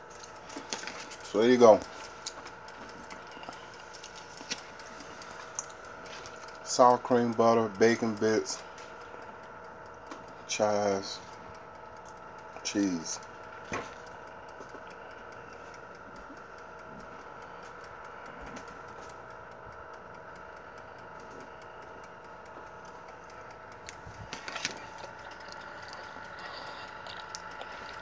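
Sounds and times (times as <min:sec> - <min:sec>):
fine regular ticking: 0:00.0 - 0:28.0
kitchen hum: 0:00.0 - 0:28.0.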